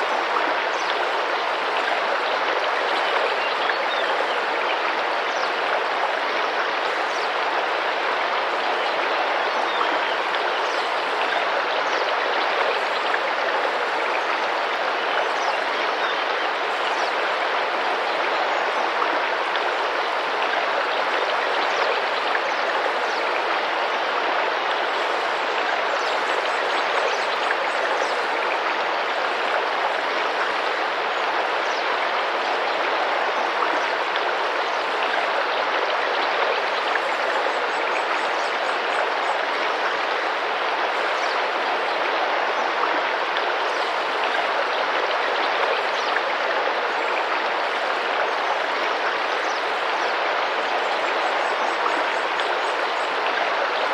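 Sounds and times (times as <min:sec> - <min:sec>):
river water flowing and splashing: 0:00.0 - 0:53.9.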